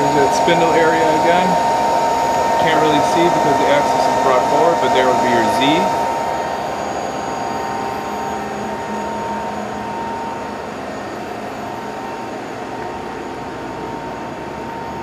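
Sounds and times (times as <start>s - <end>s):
faint steady whine: 0.0s - 15.0s
lathe machine hum: 0.0s - 15.0s.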